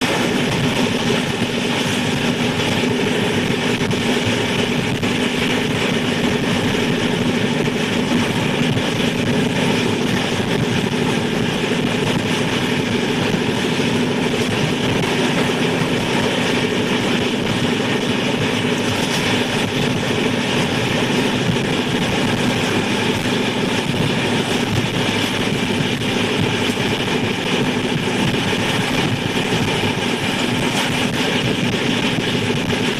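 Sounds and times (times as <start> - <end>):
engine drone: 0.0 - 32.9.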